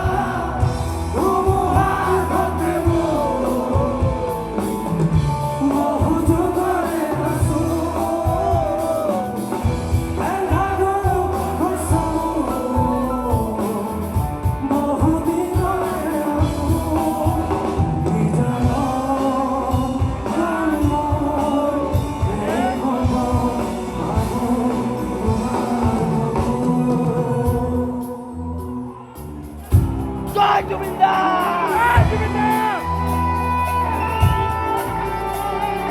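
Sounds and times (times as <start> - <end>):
person singing: 0.0 - 29.0
live band music: 0.0 - 35.9.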